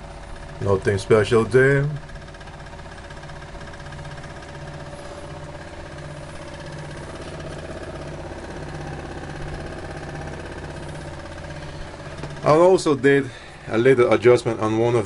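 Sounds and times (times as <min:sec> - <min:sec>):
low throb: 0:00.0 - 0:14.9
magnet rotor spinning hum: 0:00.0 - 0:15.0.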